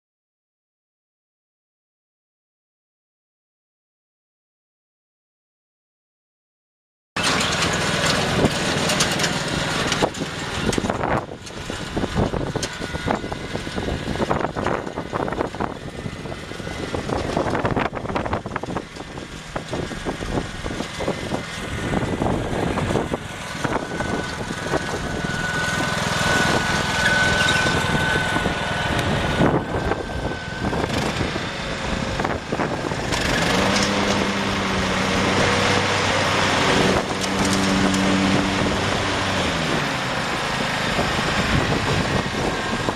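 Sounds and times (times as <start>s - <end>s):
riding lawn mower engine running: 7.2s - 42.9s.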